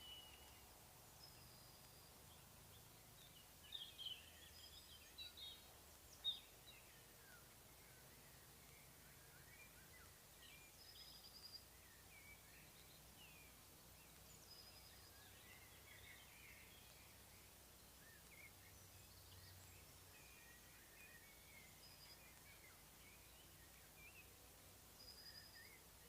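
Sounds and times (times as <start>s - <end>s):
small birds chirping and trilling: 0.0s - 26.0s.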